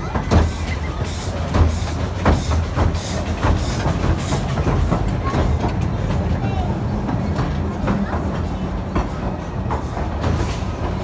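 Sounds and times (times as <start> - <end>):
train rumble: 0.0 - 11.0
wheels clattering over rail joints: 0.0 - 11.0.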